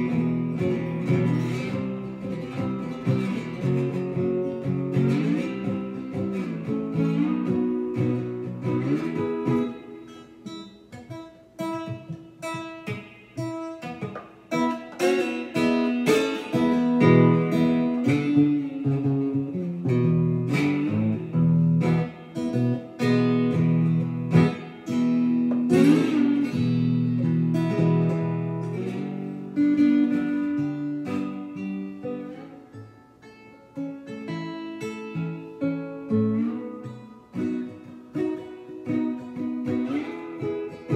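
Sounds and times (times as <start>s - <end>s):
slide guitar blues: 0.0s - 40.9s.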